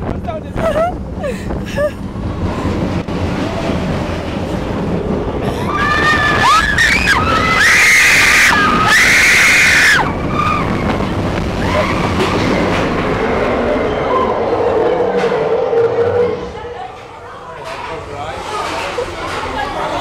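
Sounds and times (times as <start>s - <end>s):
roller coaster train on track: 0.0s - 20.0s.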